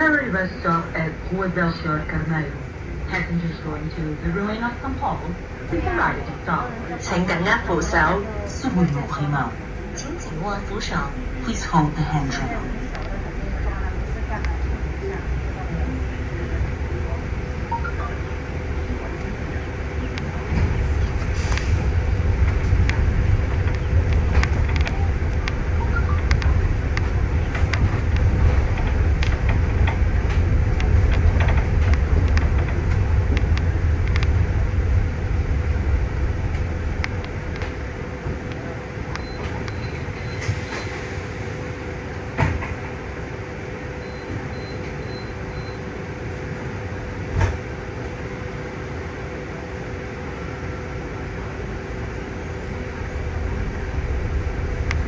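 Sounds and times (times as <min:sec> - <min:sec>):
bus engine and road rumble: 0:00.0 - 0:55.0
constant hum: 0:00.0 - 0:55.0.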